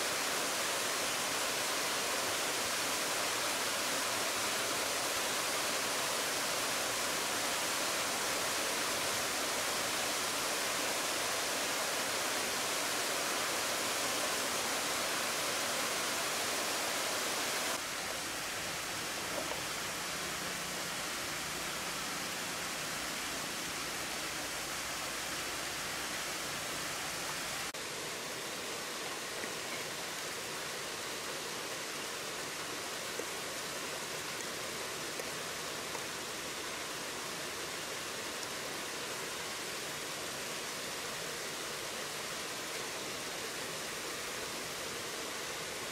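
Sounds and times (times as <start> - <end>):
waterfall and river rushing: 0.0 - 45.9.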